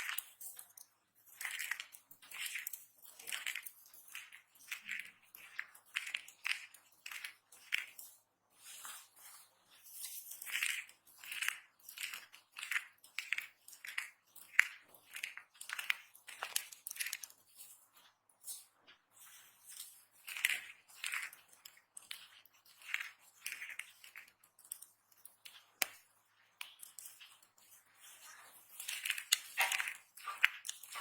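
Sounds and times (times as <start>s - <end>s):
dry soap crunching: 0.0s - 31.0s.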